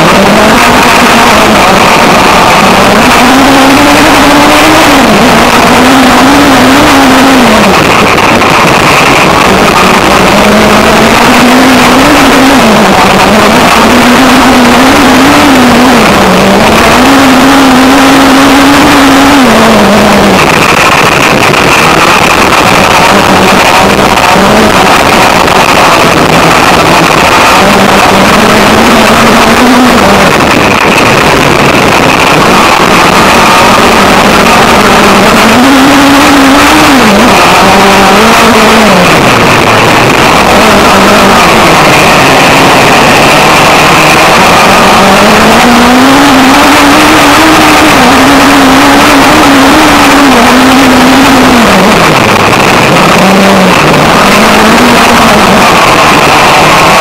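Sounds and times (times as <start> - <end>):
buggy engine revving: 0.0 - 57.0
wind noise: 0.0 - 57.0.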